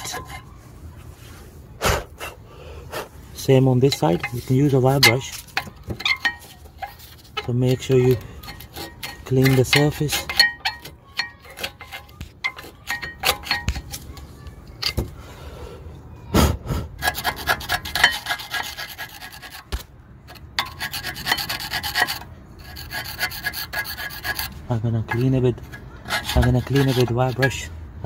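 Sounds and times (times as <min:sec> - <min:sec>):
screwdriver scraping metal: 0:00.0 - 0:00.5, 0:03.4 - 0:15.2, 0:17.0 - 0:27.8.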